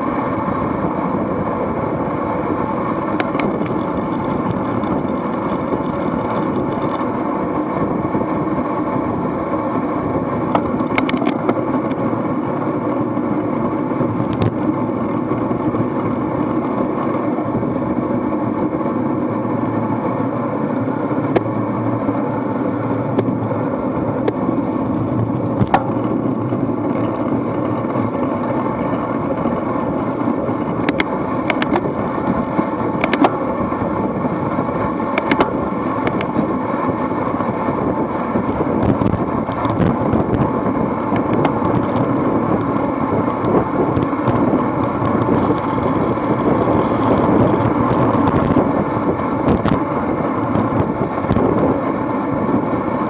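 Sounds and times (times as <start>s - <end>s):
bike tyre noise: 0.0s - 53.0s
wind rush: 0.0s - 53.0s.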